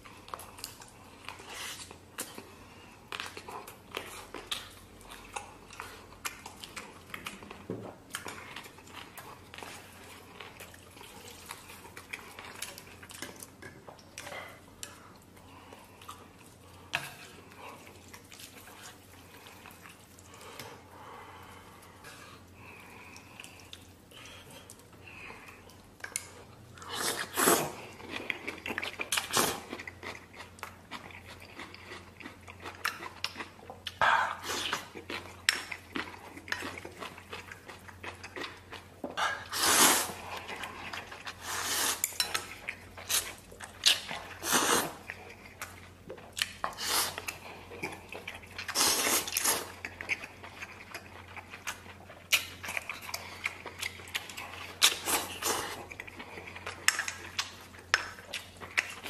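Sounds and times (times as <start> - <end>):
chewing: 0.0 - 59.0.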